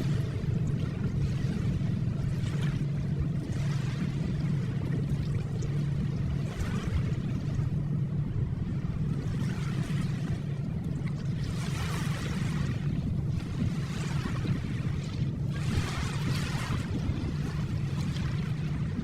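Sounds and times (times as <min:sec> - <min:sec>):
ocean waves washing in: 0:00.0 - 0:19.0.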